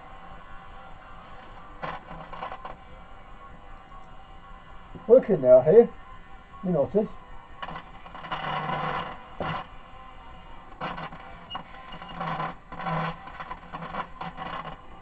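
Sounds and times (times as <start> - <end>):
crackly radio loudspeaker bursts: 0.0 - 15.0.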